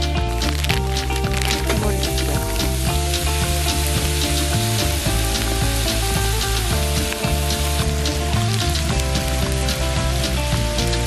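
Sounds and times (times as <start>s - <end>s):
background music with bass line: 0.0s - 11.0s
meat sizzling and crackling in skillet: 0.0s - 11.0s.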